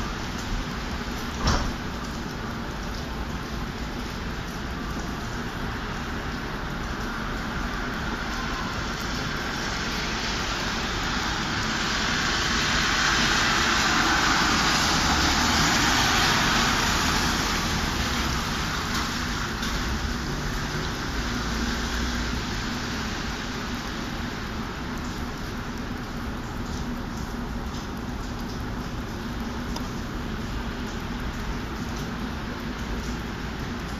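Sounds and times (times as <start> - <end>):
traffic on wet road: 0.0 - 33.9
tyres hissing on wet asphalt: 0.0 - 33.9.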